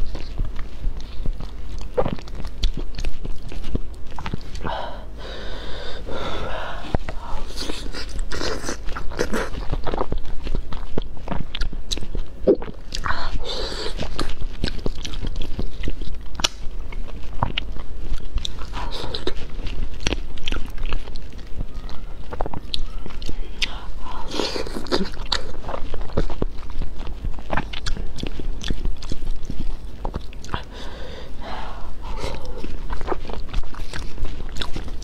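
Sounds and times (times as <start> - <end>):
person chewing with wet smacks: 0.0 - 35.0.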